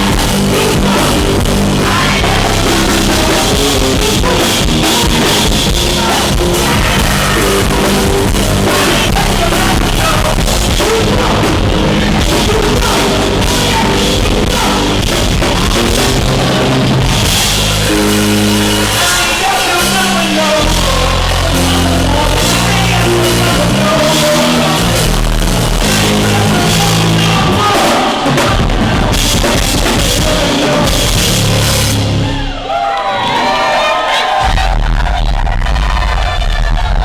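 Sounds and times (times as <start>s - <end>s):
person singing: 0.0s - 31.9s
bass line: 0.0s - 32.7s, 34.4s - 37.0s
drum kit: 0.0s - 32.8s.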